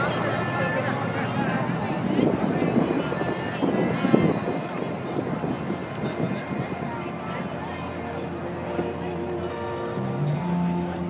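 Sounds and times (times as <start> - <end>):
wind rumbling on microphone: 0.0 - 9.0
murmur of voices: 0.0 - 11.0.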